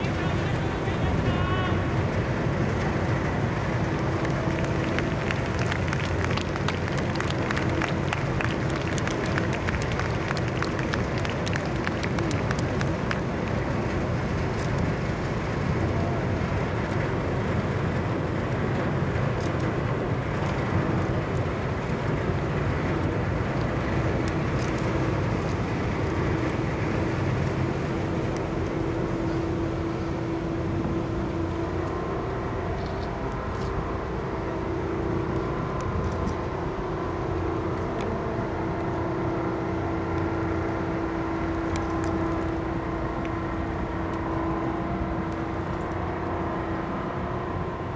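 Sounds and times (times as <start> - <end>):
low engine rumble: 0.0 - 47.9
steady hum: 0.0 - 47.9.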